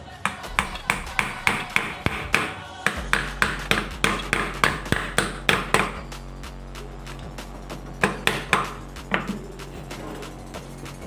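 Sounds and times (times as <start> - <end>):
steady low hum: 0.5 - 11.0.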